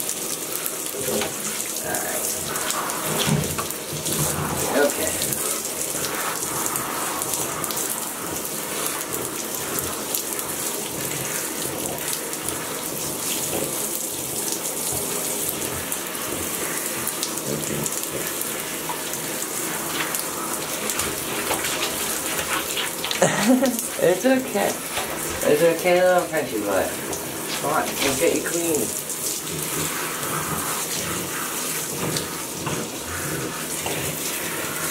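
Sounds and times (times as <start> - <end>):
shower water running into bathtub: 0.0 - 34.9.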